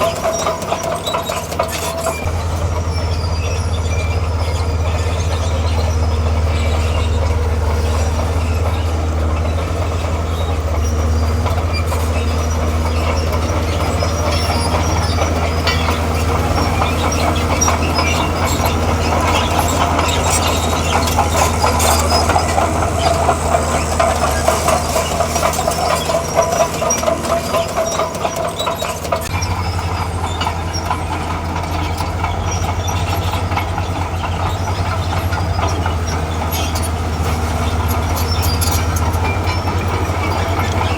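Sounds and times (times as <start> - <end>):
bulldozer diesel engine running: 0.0 - 40.9
steel tracks clanking: 0.0 - 40.9
track squeal: 0.0 - 40.9.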